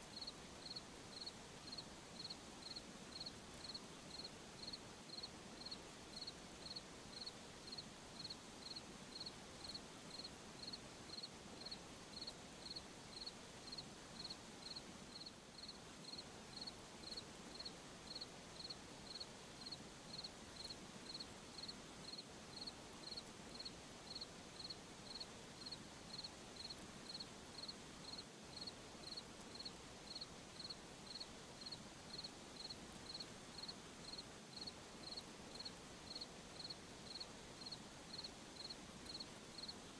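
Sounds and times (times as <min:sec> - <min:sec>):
faint insect hum: 0:00.0 - 0:39.9
cricket chirping: 0:00.1 - 0:39.8.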